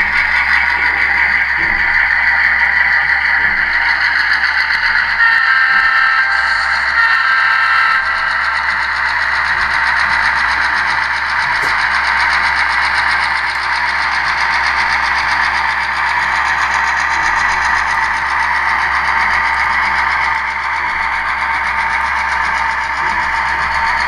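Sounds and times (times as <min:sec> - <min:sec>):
model diesel engine sound from speaker: 0:00.0 - 0:24.0.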